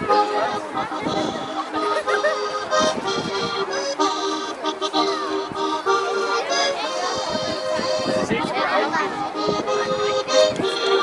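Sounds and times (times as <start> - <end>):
accordion playing folk dance tune: 0.0 - 11.0.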